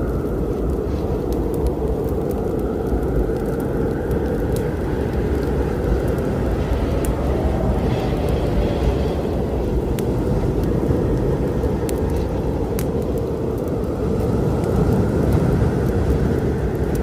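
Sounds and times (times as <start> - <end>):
low storm rumble: 0.0 - 17.0
wood fire crackling: 0.0 - 17.0.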